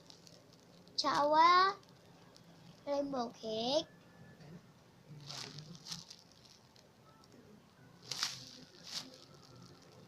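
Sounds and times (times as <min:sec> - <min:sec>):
rustling handling noise: 0:00.0 - 0:03.6, 0:05.2 - 0:10.0.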